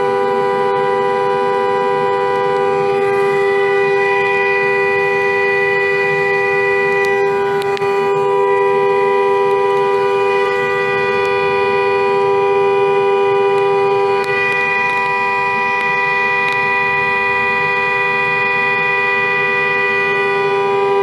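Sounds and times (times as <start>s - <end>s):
car horn blaring: 0.0s - 21.0s.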